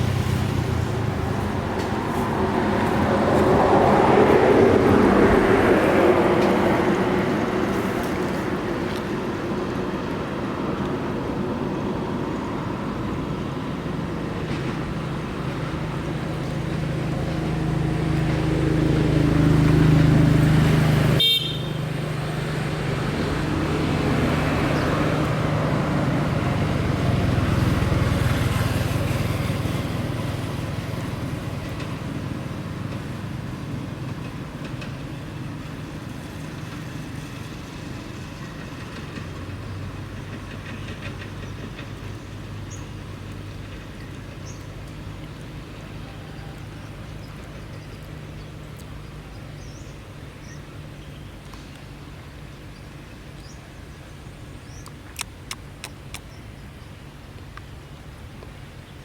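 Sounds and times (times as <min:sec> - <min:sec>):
motor vehicle engine drone: 0:00.0 - 0:59.0
road noise hum: 0:00.0 - 0:59.0.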